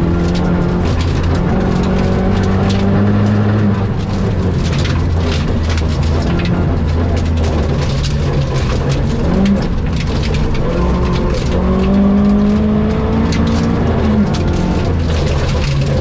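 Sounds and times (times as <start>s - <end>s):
gravel pelting car underside: 0.0s - 16.0s
rally car engine running hard: 0.0s - 16.0s.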